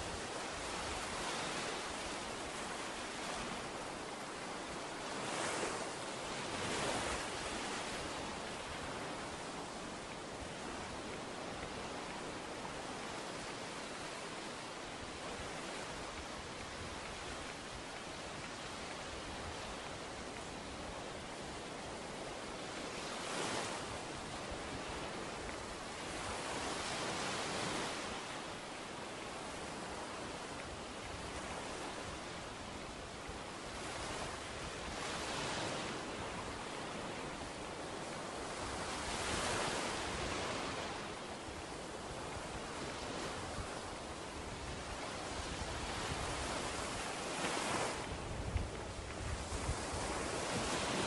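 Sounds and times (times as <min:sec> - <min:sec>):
surf breaking on a beach: 0:00.0 - 0:51.0.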